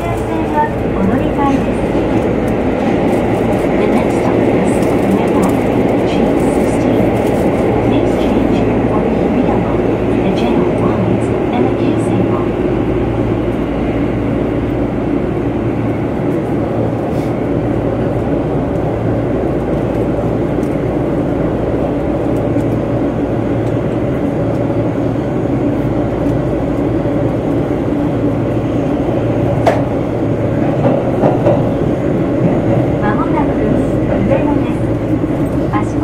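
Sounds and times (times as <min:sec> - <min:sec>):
subway train rumbling: 0:00.0 - 0:36.0.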